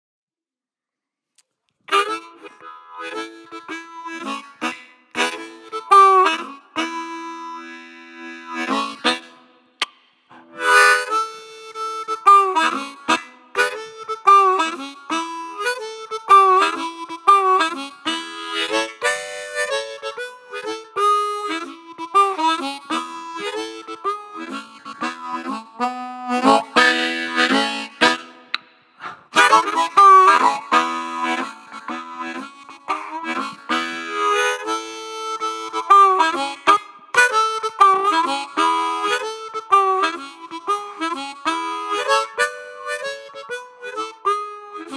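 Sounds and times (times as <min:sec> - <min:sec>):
harmonica playing: 0:01.9 - 0:09.7, 0:10.3 - 0:44.9.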